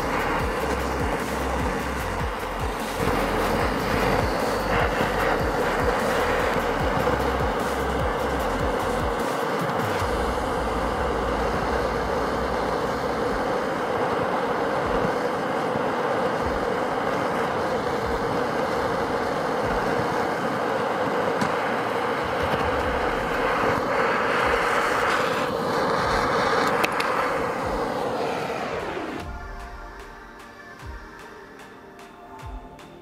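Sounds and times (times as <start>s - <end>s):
blowtorches hissing: 0.0s - 32.3s.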